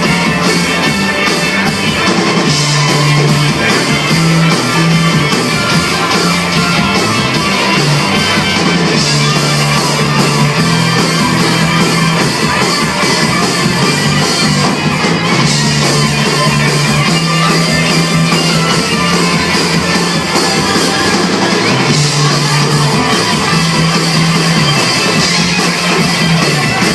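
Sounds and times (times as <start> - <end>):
live rock band instrumental: 0.0 - 26.9.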